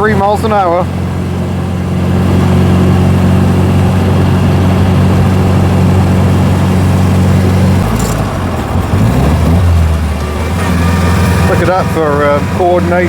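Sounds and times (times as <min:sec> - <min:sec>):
car engine running under way: 0:00.0 - 0:13.0.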